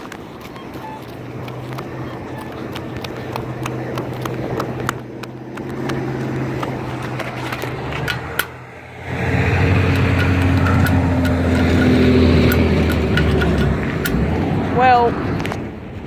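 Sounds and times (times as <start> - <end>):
pedestrian signal ticking: 0.0 - 14.5
road traffic: 0.0 - 16.0
vehicle running close by: 0.0 - 16.0.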